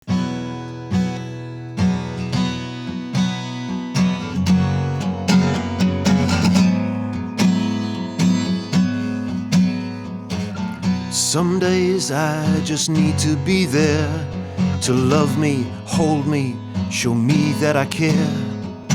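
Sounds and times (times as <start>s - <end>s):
acoustic guitar strumming chords: 0.0s - 18.9s.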